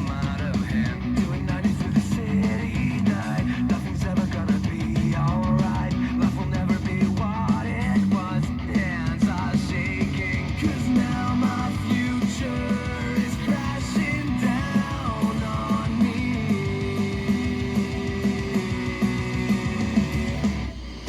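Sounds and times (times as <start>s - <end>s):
heavy metal music over speakers: 0.0s - 21.0s.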